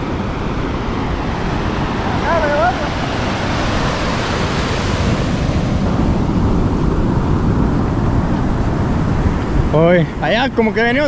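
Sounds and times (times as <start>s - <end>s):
surf breaking on beach: 0.0s - 11.0s
wind rumbling on microphone: 0.0s - 11.0s.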